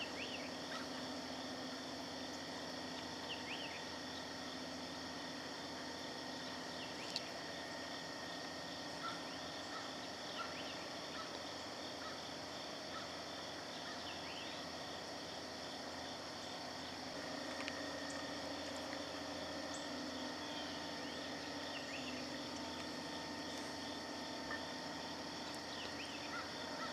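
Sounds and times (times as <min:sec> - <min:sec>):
insects chorus: 0:00.0 - 0:26.9.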